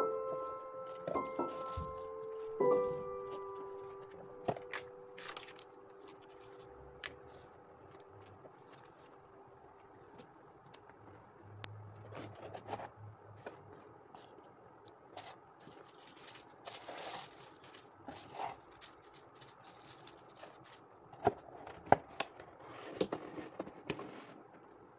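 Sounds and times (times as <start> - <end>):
paper packaging rustling and crinkling: 0.0 - 11.4, 12.0 - 24.6.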